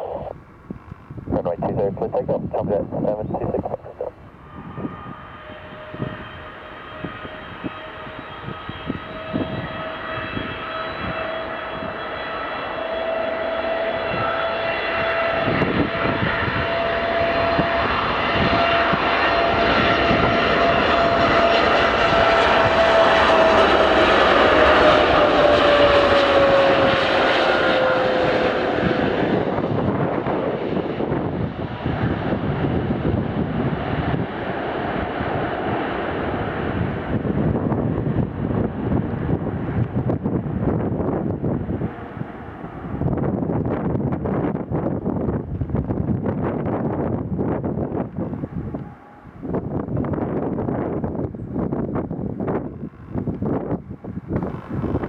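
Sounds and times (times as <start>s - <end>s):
jet engines at takeoff: 0.0s - 55.0s.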